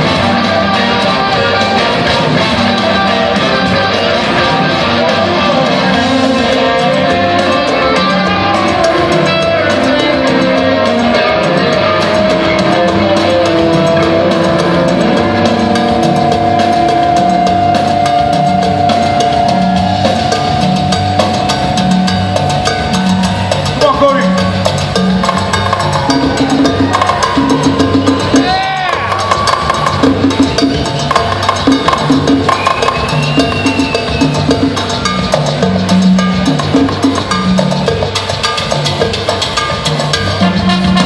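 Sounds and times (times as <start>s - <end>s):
bass guitar: 0.0s - 41.0s
drum kit: 0.0s - 41.0s
electric guitar: 0.0s - 41.0s.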